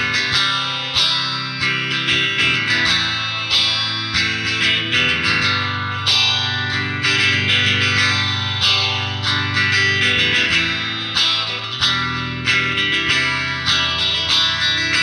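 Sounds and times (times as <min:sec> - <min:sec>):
electric guitar notes and chords: 0:00.0 - 0:15.0.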